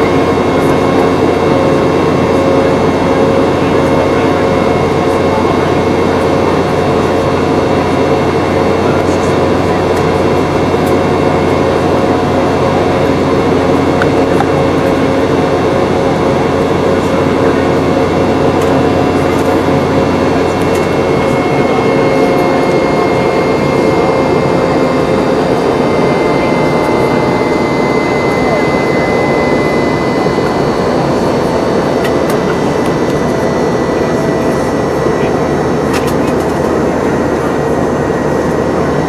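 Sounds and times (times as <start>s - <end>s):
aircraft cabin roar: 0.0s - 39.0s
high engine whine: 0.0s - 39.0s.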